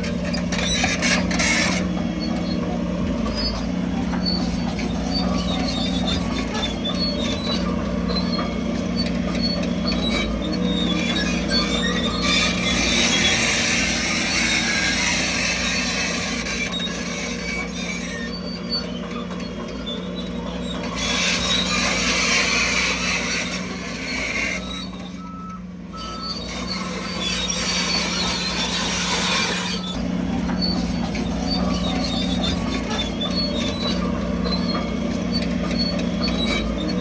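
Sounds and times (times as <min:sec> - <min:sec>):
diesel engine running: 0:00.0 - 0:37.0
metallic squealing and clatter: 0:00.0 - 0:37.0.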